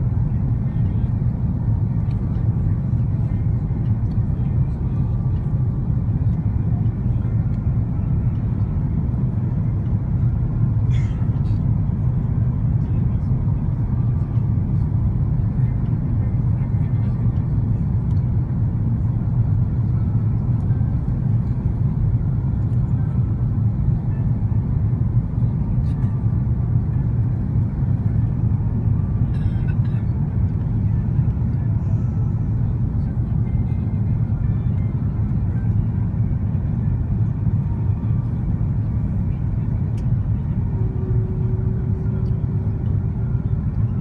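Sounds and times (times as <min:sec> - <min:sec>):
airplane cabin engine rumble: 0:00.0 - 0:44.0.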